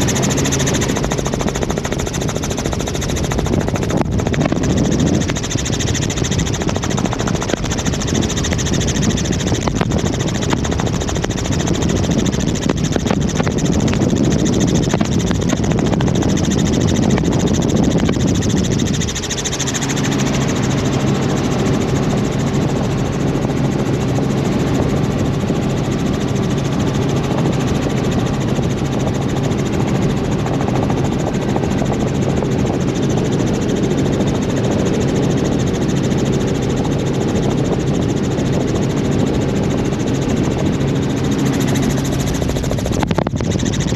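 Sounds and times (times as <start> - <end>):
helicopter rotor and engine drone: 0.0 - 43.9.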